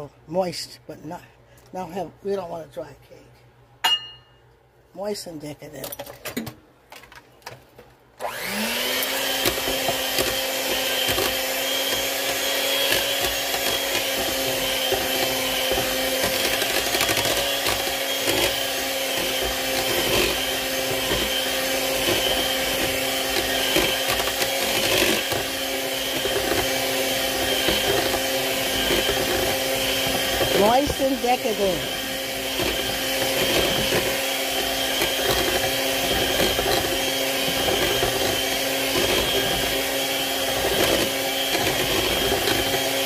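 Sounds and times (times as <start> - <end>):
electric hand mixer whining: 8.2 - 43.0.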